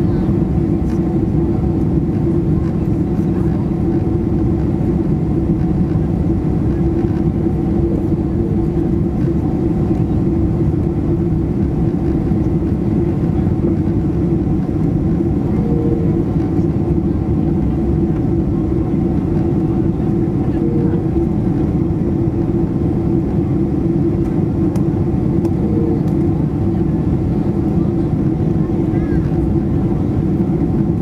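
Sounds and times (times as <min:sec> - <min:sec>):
aircraft cabin engine hum: 0:00.0 - 0:31.0.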